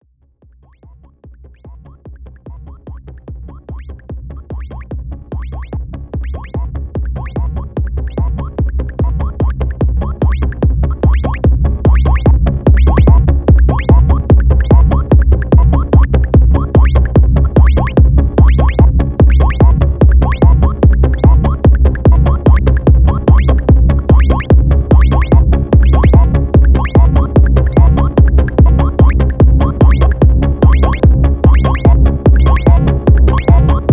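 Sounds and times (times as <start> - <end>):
deep synth bass: 0.0 - 33.9
drum machine beat: 0.7 - 33.9.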